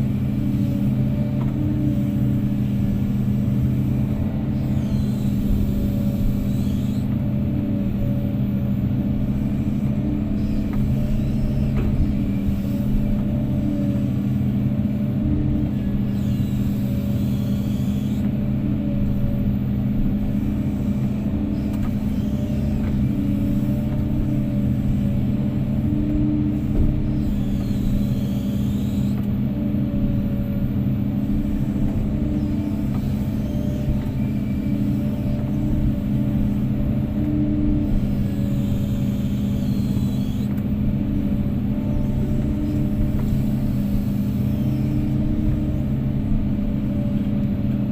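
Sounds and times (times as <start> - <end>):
heavy diesel engine humming: 0.0 - 47.9.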